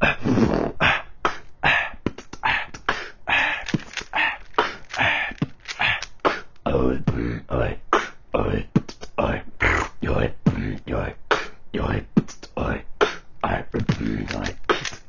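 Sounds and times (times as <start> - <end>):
person beatboxing: 0.0 - 15.0.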